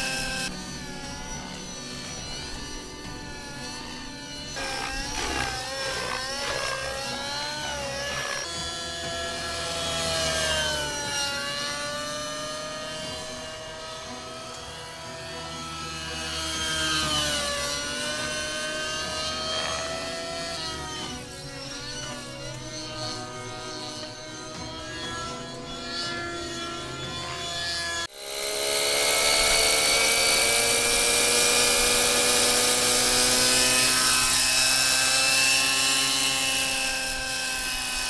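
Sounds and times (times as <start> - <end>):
rc helicopter engine and rotors: 0.0 - 38.0.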